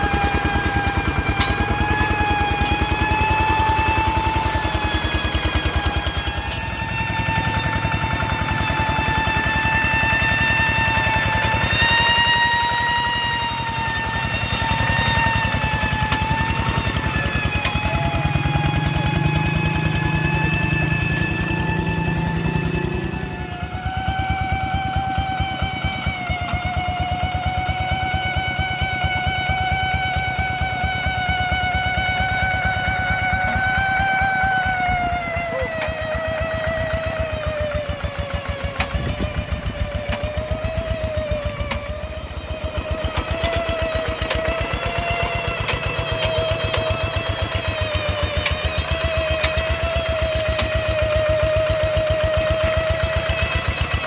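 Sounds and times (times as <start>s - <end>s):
steady high whine: 0.0s - 54.0s
tractor engine running: 0.0s - 54.0s.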